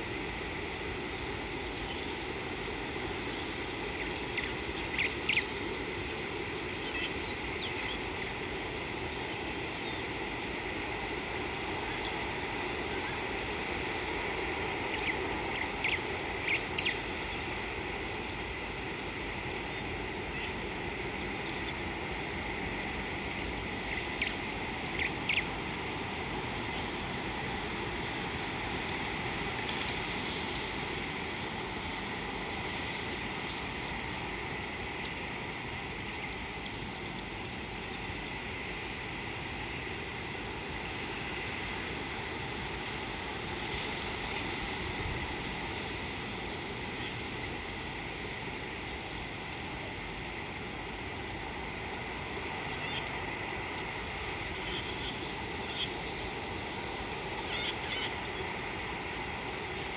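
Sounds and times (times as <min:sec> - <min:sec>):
high insect drone: 0:00.0 - 0:59.9
insect chirping: 0:00.0 - 0:59.9
outdoor background hiss: 0:00.0 - 0:59.9.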